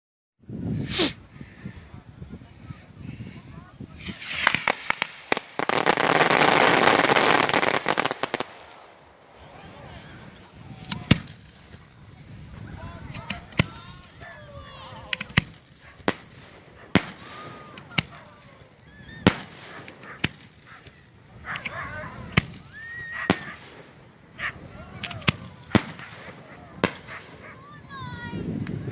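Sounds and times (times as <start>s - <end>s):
fireworks banging: 4.0s - 14.3s, 15.0s - 28.8s.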